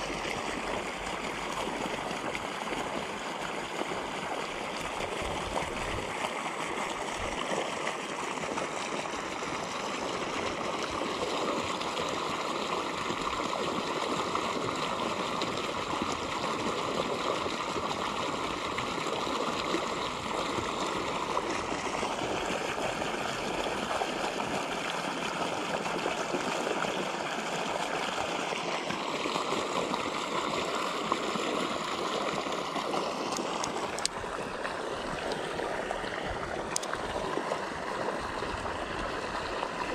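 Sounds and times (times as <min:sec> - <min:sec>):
water gushing from a pipe: 0:00.0 - 0:39.9
water splashing onto a pond: 0:00.0 - 0:39.9.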